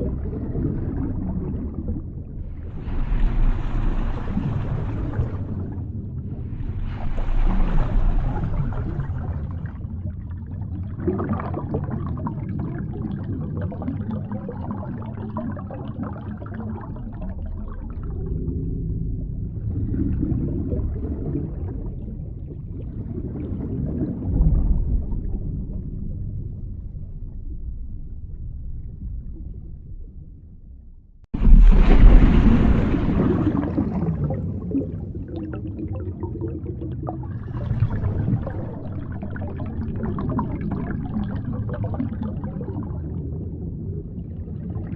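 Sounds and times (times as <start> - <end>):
muffled underwater water wash: 0.0 - 44.9.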